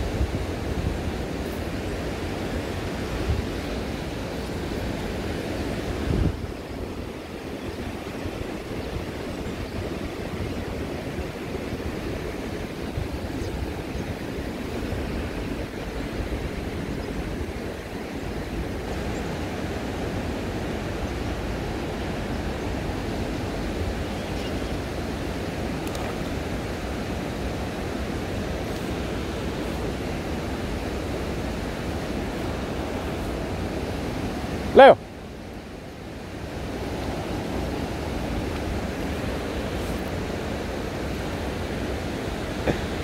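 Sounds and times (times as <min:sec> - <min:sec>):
wind buffeting microphone: 0:00.0 - 0:34.8
flowing river: 0:00.0 - 0:43.0.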